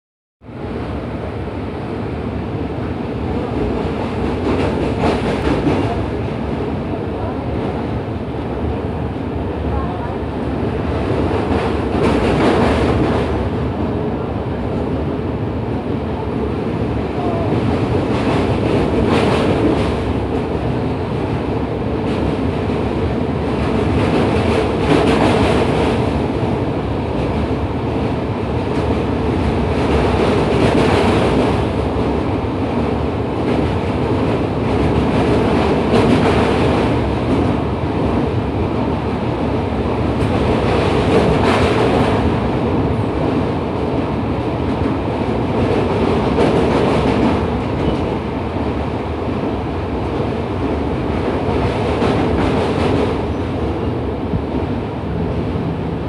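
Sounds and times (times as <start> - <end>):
train wheels on rails: 1.6 - 8.0, 10.6 - 13.9, 15.7 - 56.0.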